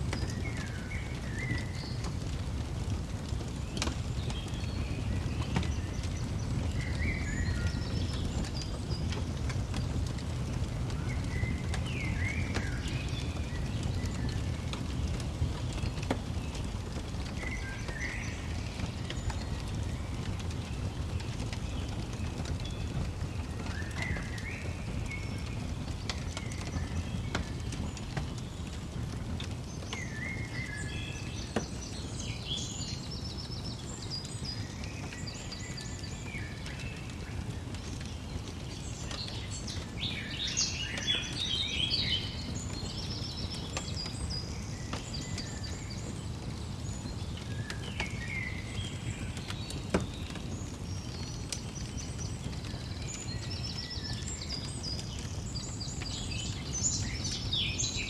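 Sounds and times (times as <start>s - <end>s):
fire crackling pops: 0.0s - 57.8s
log fire rumbling: 0.0s - 58.0s
small birds chirping: 0.0s - 58.0s.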